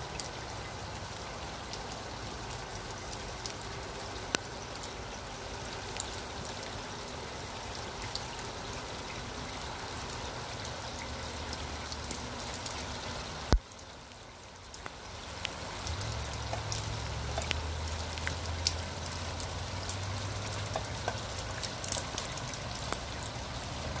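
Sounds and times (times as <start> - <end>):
steady rain: 0.0 - 24.0
water drips ticking: 0.0 - 24.0
water trickling down rain chain: 0.0 - 24.0.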